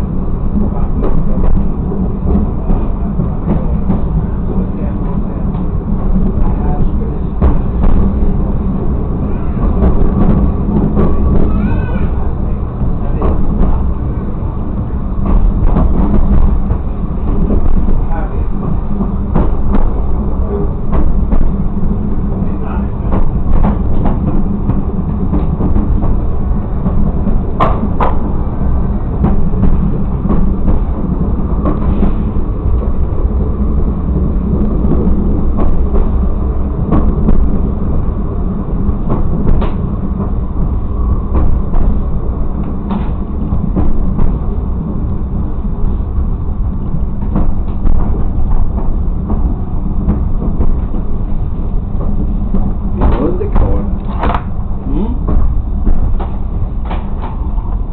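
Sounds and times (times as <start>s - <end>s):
railcar engine and running noise: 0.0s - 57.9s.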